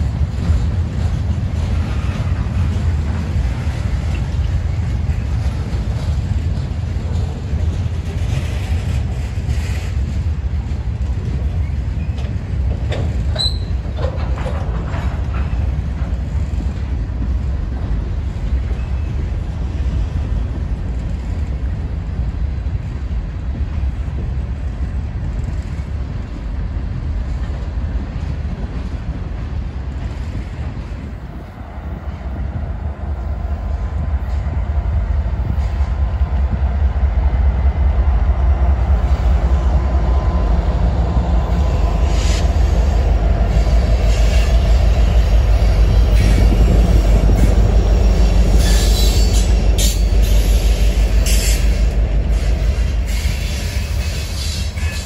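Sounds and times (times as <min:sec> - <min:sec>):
high train squeals: 0:00.0 - 0:22.0, 0:27.3 - 0:55.0
freight train rumbling past: 0:00.0 - 0:55.0.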